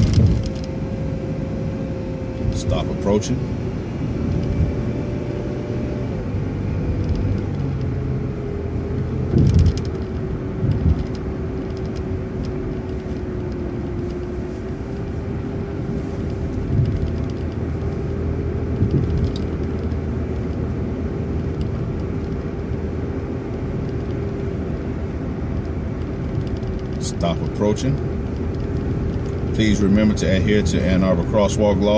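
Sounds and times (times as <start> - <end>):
bus engine drone: 0.0 - 31.9
engine whine: 0.0 - 31.9.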